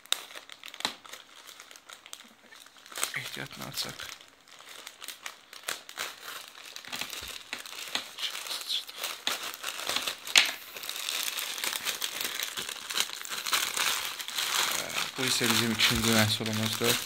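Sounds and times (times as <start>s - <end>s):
plastic bag crinkling and tearing: 0.0s - 17.0s.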